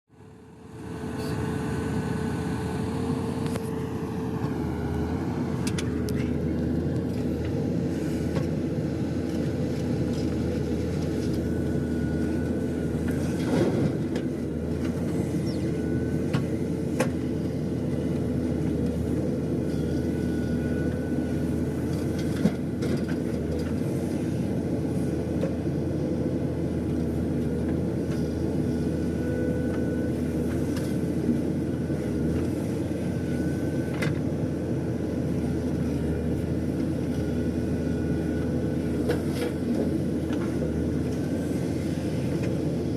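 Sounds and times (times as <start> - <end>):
diesel engine running: 0.1 - 42.9.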